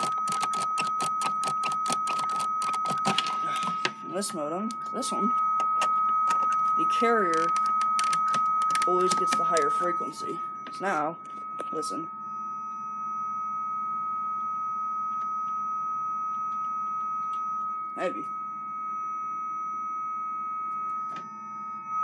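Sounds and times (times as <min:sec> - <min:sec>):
modem carrier tone whistle: 0:00.0 - 0:22.0.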